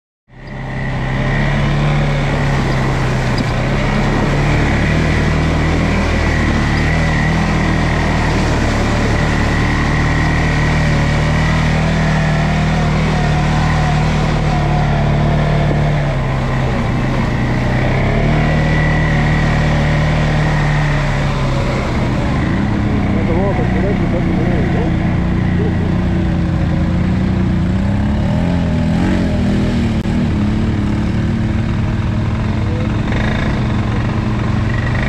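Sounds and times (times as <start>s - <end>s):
atv engine running: 0.3s - 35.0s.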